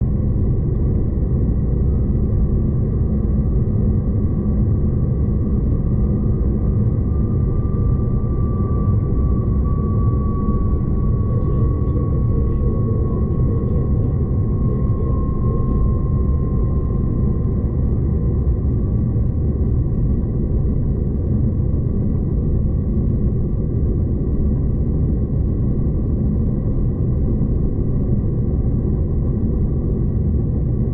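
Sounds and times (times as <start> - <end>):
faint steady whine: 0.0 - 30.9.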